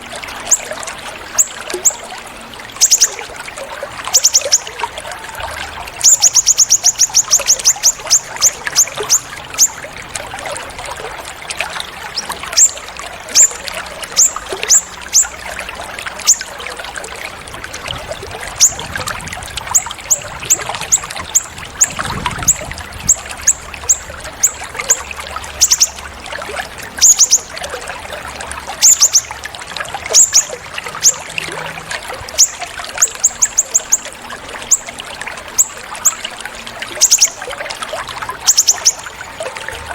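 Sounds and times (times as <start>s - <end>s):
songbird chips and trills: 0.0s - 29.4s, 30.0s - 39.9s
trickling water: 0.0s - 39.9s.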